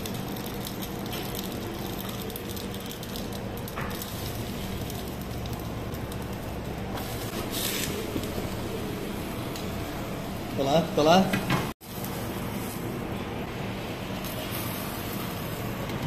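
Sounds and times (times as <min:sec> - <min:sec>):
light sizzling: 0:00.0 - 0:11.1, 0:11.8 - 0:16.0
cooking equipment hum and hiss: 0:00.0 - 0:16.0.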